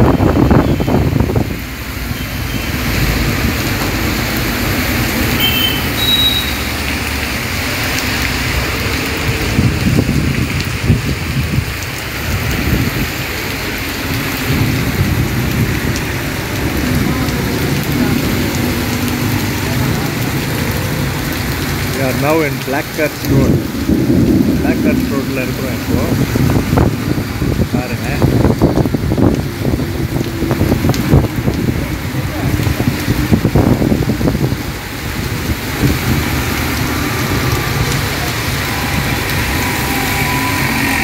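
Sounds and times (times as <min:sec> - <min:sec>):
heavy rain on street: 0:00.0 - 0:41.0
vehicles passing on wet road: 0:00.0 - 0:41.0.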